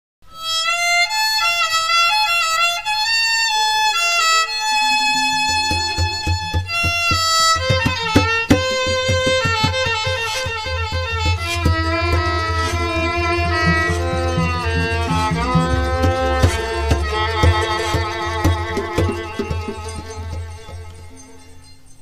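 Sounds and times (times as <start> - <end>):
violin melody: 0.2 - 21.9
low beat and light percussion: 3.8 - 22.0.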